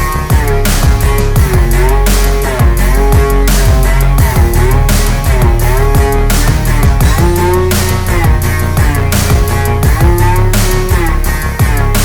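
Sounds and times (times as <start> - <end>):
rap rock instrumental music: 0.0 - 12.0.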